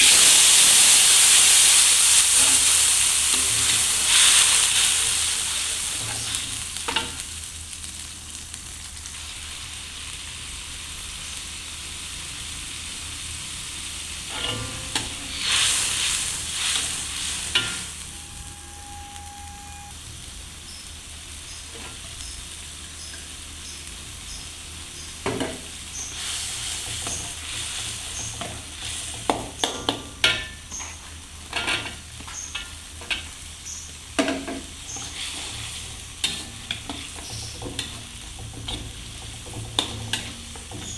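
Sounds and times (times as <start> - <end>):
food sizzling in a hot pan: 0.0 - 40.9.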